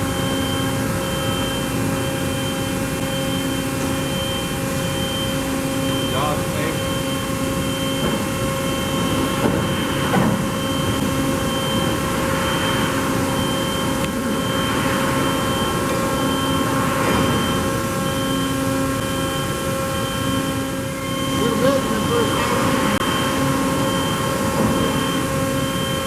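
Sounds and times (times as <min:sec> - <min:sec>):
low machine tone: 0:00.0 - 0:26.0
machine hum and hiss: 0:00.0 - 0:26.0.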